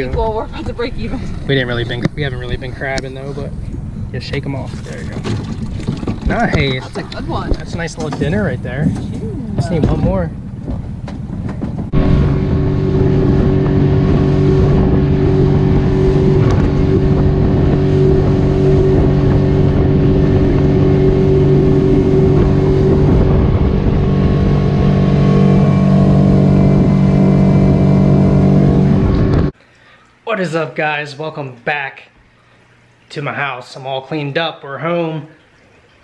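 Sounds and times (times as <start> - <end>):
boat motor running: 0.0 - 29.6
water rushing along hull: 0.0 - 29.6.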